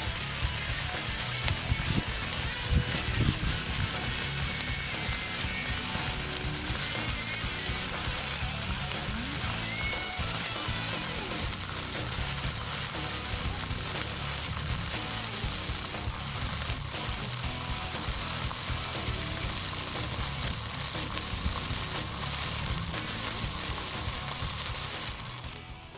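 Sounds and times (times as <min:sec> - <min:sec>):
firework fountain hissing: 0:00.0 - 0:25.6.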